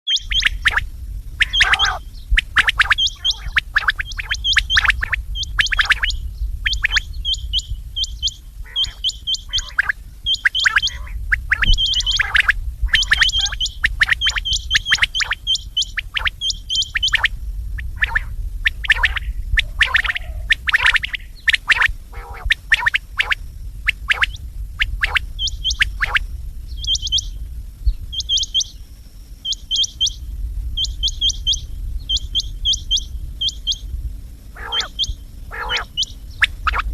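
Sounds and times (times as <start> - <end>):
quail whistled calls: 0.0 - 27.4, 28.1 - 28.8, 29.4 - 33.9, 34.6 - 36.9
steady low hum: 0.0 - 36.9.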